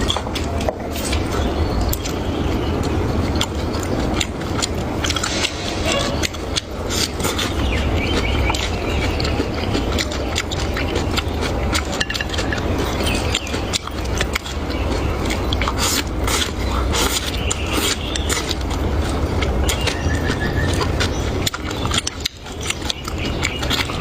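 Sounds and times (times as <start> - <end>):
chewing and crunching food: 0.0 - 24.0
low hum: 0.0 - 24.0.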